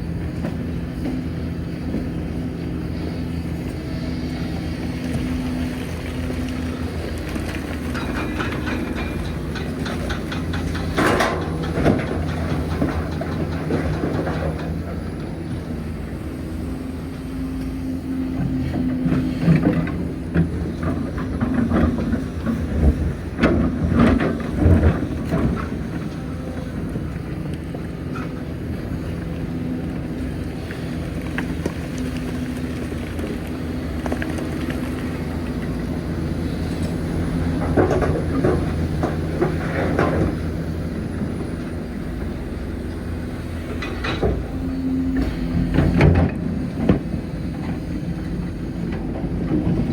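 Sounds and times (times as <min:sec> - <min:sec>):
diesel engine running: 0:00.0 - 0:49.9
excavator bucket clanking and scraping: 0:00.1 - 0:16.2, 0:18.4 - 0:49.9.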